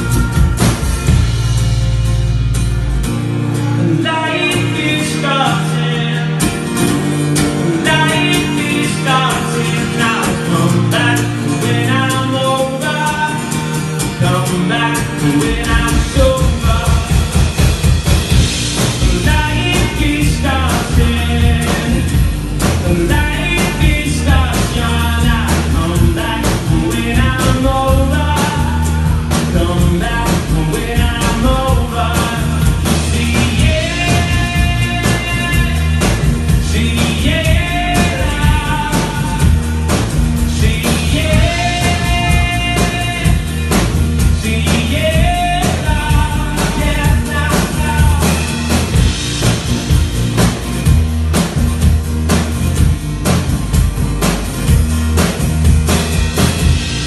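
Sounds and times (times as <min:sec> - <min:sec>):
bass guitar: 0:00.0 - 0:57.0
rock guitar: 0:00.0 - 0:57.0
steady drum beat: 0:00.0 - 0:57.0.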